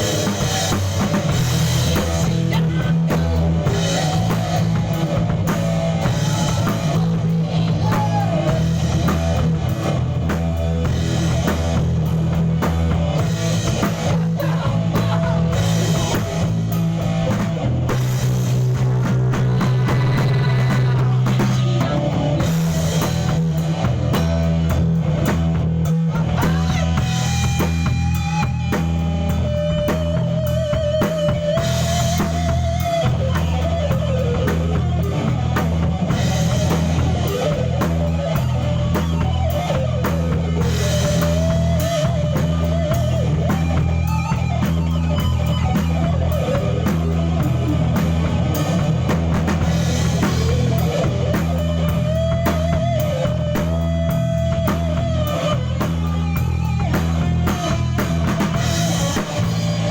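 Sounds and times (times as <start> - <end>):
bass guitar: 0.0 - 59.9
drum kit beat: 0.0 - 59.9
guitar: 0.0 - 59.9.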